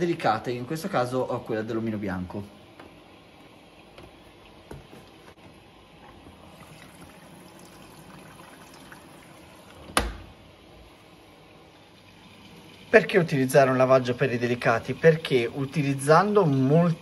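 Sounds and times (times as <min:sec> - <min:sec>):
washing machine water trickling: 0:00.0 - 0:17.0.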